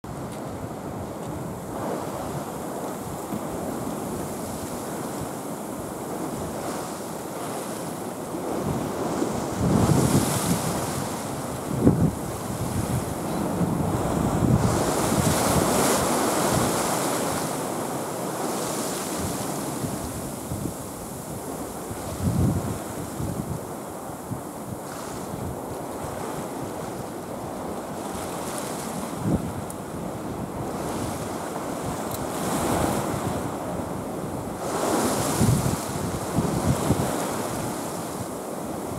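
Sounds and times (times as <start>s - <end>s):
wind buffeting microphone: 0.0s - 38.9s
sea waves washing on shore: 0.1s - 38.9s.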